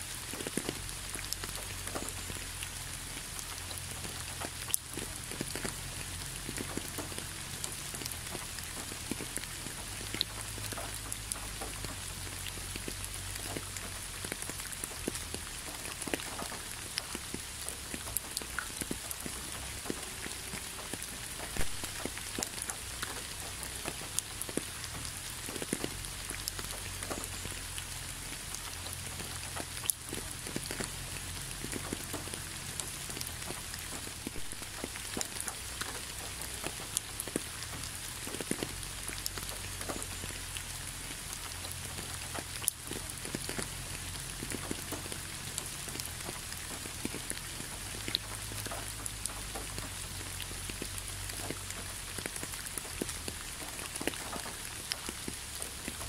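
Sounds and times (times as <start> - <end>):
louder single raindrops: 0.0 - 56.0
steady rain falling: 0.0 - 56.0.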